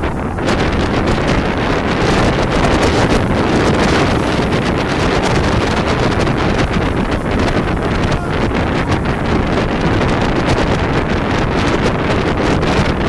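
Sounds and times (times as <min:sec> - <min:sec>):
water rushing and spraying: 0:00.0 - 0:11.9
wind buffeting microphone: 0:00.0 - 0:13.0.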